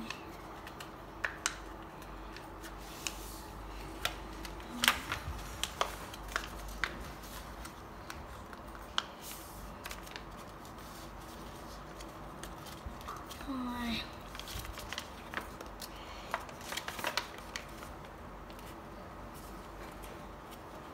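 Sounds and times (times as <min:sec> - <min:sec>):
faint steady hum: 0:00.0 - 0:20.9
paper being folded and creased: 0:00.0 - 0:20.9.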